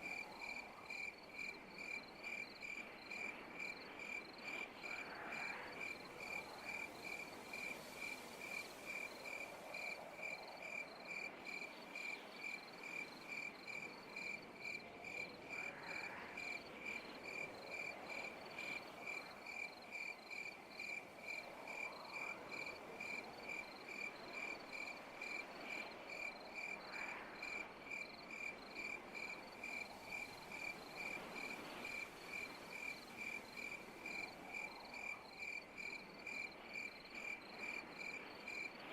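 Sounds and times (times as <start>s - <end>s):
cricket chirping: 0.0s - 38.9s
soft night ambience hiss: 0.0s - 38.9s.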